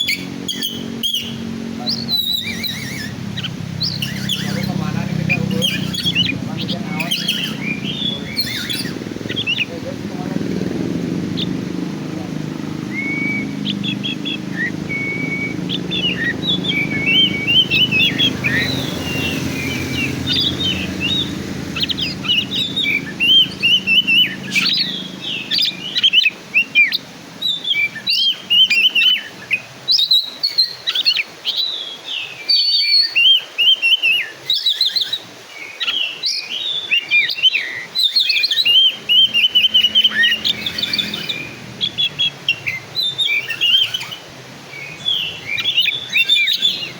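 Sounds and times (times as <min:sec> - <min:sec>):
songbird whistling and chirping: 0:00.0 - 0:09.7, 0:10.6 - 0:46.9.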